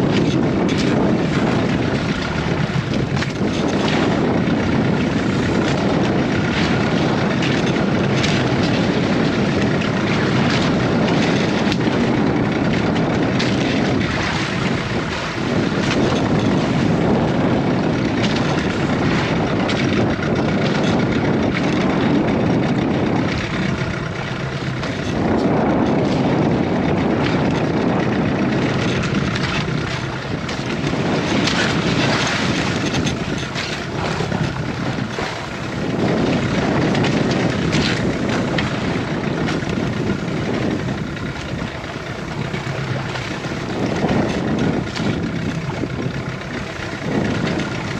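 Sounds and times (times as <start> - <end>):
boat engine running: 0.0 - 47.9
rushing water: 0.0 - 47.9
wind noise: 0.0 - 47.9.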